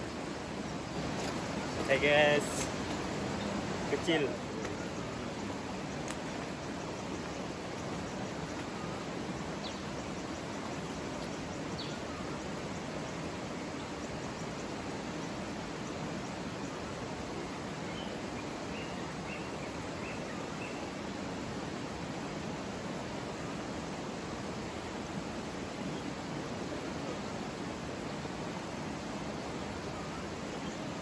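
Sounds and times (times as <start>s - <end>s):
river running over rocks: 0.0s - 31.0s.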